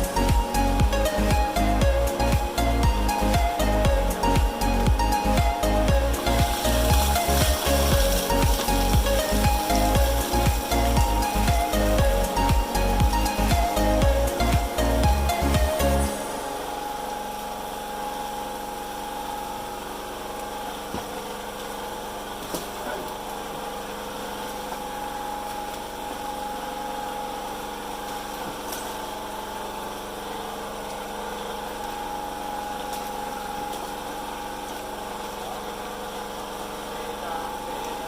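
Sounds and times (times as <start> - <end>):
engine running steadily: 0.0 - 38.0.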